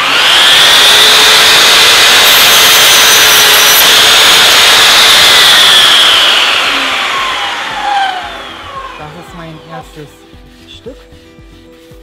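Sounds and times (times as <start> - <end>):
saw motor whining: 0.0 - 10.2
mitre saw cutting moulding: 0.0 - 11.1.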